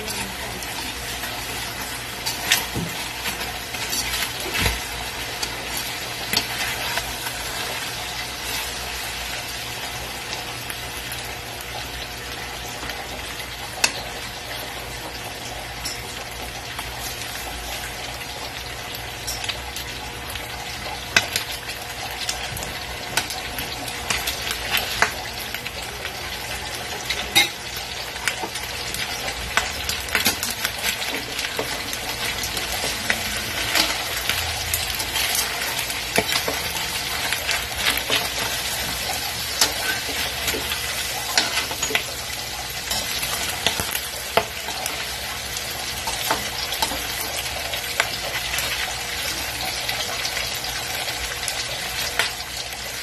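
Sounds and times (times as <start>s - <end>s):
pork sizzling in a wok: 0.0s - 53.0s.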